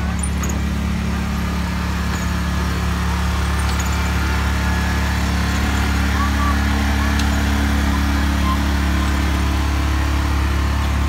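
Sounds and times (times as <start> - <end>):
low engine drone of small train: 0.0 - 11.0.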